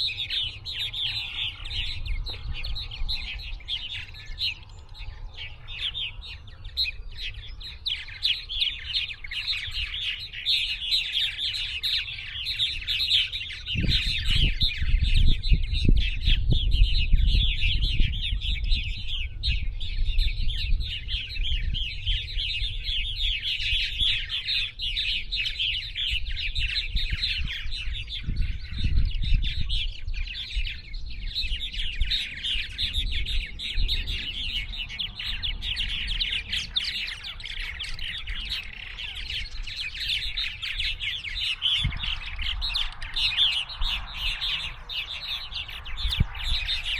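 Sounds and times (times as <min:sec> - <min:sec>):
small birds chirping and trilling: 0:00.0 - 0:46.9.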